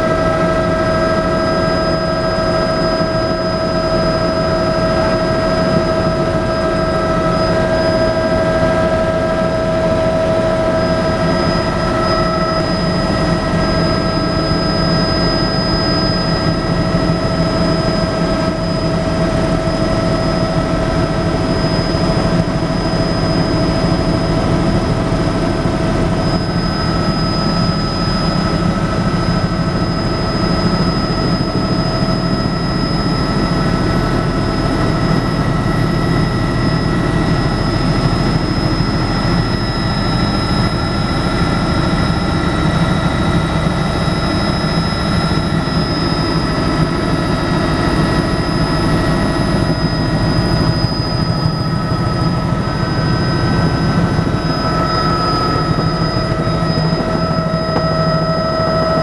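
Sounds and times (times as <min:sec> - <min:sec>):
helicopter rotor noise: 0:00.0 - 0:59.0
helicopter turbine whine: 0:00.0 - 0:59.0.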